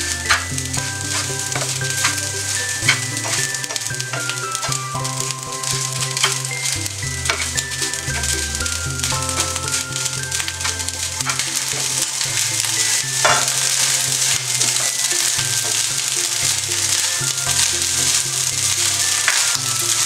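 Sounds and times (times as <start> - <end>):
food sizzling in a pan: 0.0 - 20.0
wooden spatula scraping a pan: 0.0 - 20.0.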